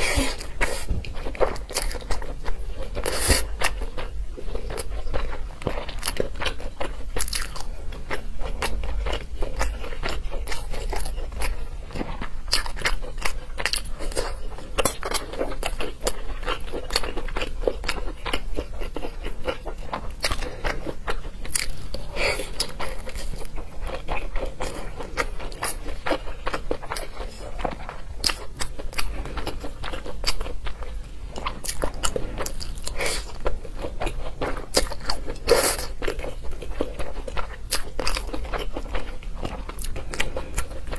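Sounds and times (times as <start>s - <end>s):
mouth clicks and crunches: 0.0s - 40.9s
wet chewing and biting: 0.0s - 40.9s.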